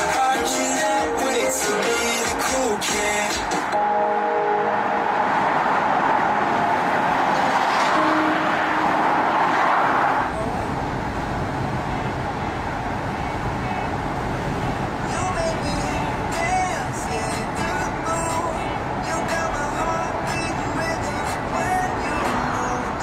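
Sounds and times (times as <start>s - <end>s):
car cabin road noise: 0.0s - 23.0s.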